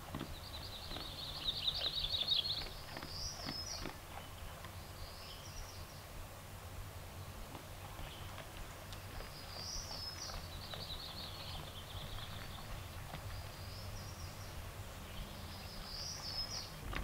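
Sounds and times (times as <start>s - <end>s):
low wind rumble: 0.0s - 17.0s
songbird singing: 0.0s - 17.0s.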